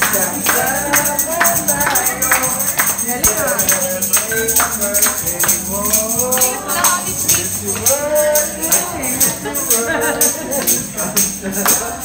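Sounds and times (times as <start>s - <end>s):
people singing: 0.0s - 12.0s
tambourine shaken and struck: 0.0s - 12.0s.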